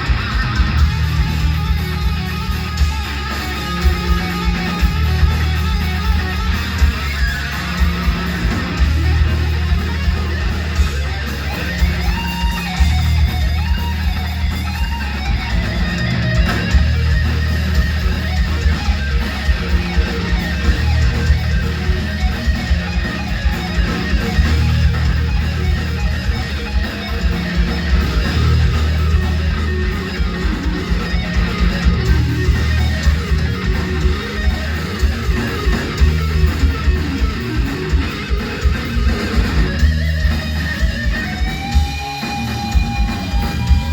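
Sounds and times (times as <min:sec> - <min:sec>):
bass guitar: 0:00.0 - 0:43.9
electric guitar solo: 0:00.0 - 0:43.9
steady drum beat: 0:00.0 - 0:43.9.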